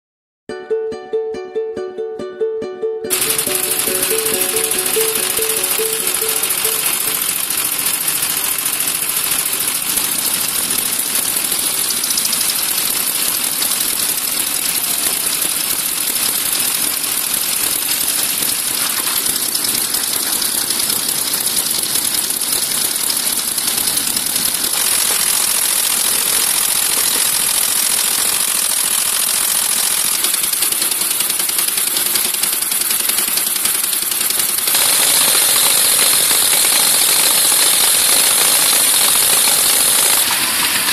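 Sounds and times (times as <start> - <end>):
motorcycle engine clattering: 3.1 - 40.9.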